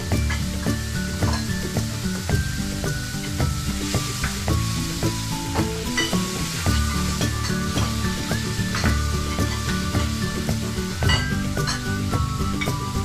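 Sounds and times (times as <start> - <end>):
background music: 0.0 - 13.0
food sizzling in a pan: 0.0 - 13.0.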